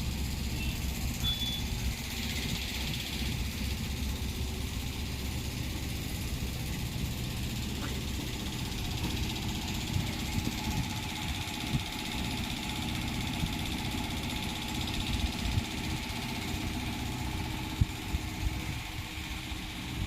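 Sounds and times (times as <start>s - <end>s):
motor running steadily: 0.0s - 20.0s.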